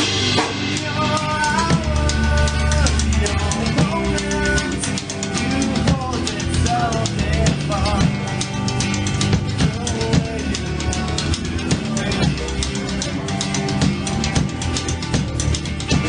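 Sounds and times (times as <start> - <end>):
drum kit beat: 0.0 - 16.0
electric guitar with bent notes: 0.0 - 16.0.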